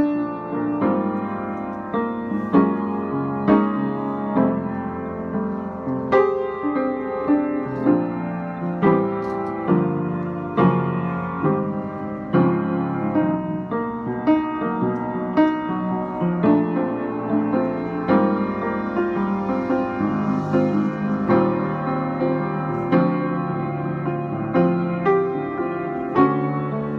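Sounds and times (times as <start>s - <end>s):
slow piano chords: 0.0s - 26.9s.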